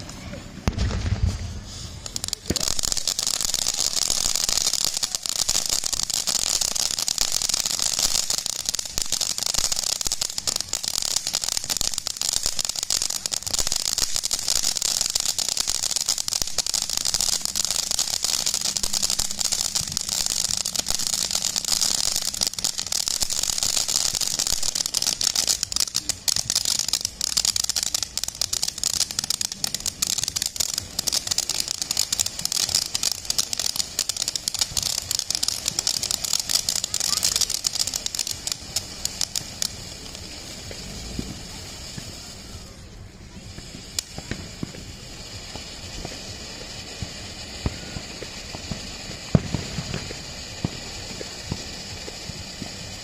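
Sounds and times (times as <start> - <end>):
firework fountain hissing and crackling: 0.0 - 53.0.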